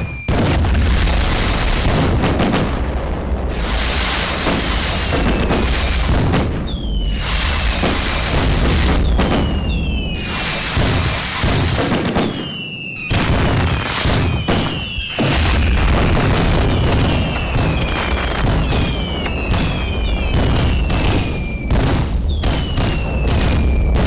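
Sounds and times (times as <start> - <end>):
fireworks bangs and booms: 0.0 - 24.0
whistling fireworks: 0.0 - 24.0
deep rumble: 0.5 - 11.1, 15.3 - 24.0.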